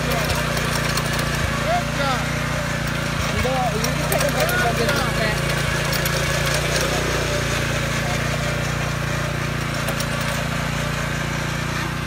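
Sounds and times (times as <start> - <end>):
tiller engine running: 0.0 - 12.0
tines churning soil: 0.0 - 12.0.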